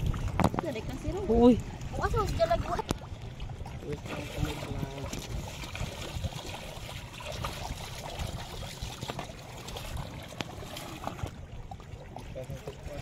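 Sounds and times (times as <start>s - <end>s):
small clicks and splashes: 0.0s - 13.0s
water lapping around rocks: 0.0s - 13.0s.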